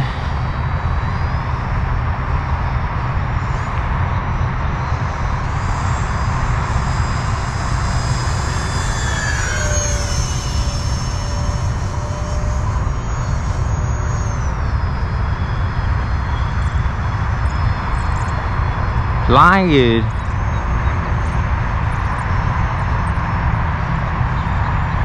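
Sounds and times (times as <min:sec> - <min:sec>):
electric ducted fan whine: 0:00.0 - 0:25.0.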